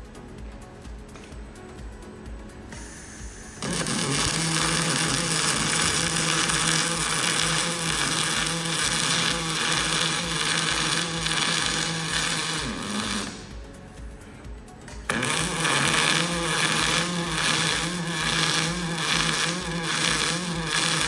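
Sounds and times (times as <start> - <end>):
welding arc crackling buzz: 2.7 - 13.9, 14.9 - 21.0.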